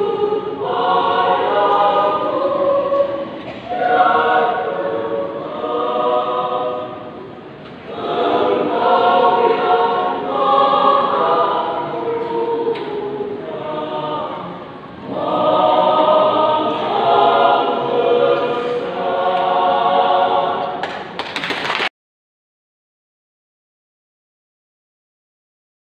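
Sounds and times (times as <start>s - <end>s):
choir singing: 0.0s - 21.1s.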